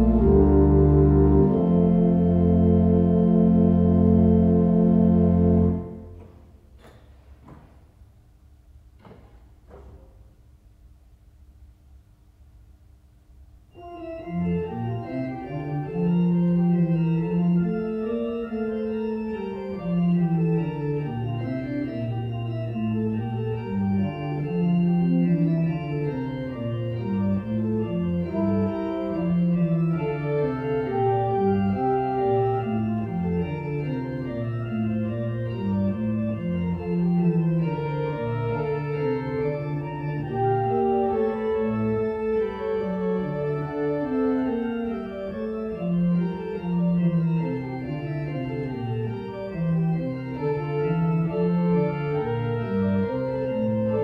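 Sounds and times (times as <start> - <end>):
church organ chords: 0.0 - 6.5, 13.7 - 54.0.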